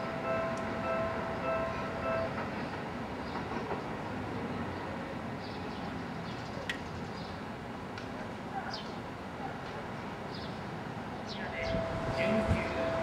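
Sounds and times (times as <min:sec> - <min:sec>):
train wheels rumbling on rails: 0:00.0 - 0:07.2, 0:08.8 - 0:13.0.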